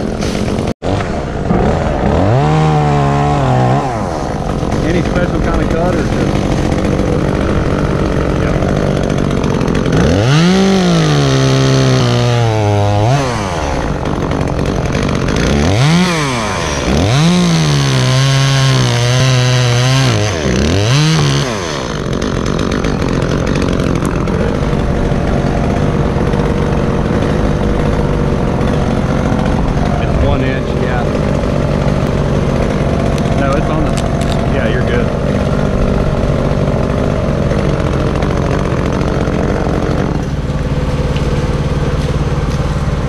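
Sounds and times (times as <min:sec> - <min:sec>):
chainsaw idling: 0:00.0 - 0:43.0
chainsaw revving and cutting wood: 0:00.0 - 0:43.0.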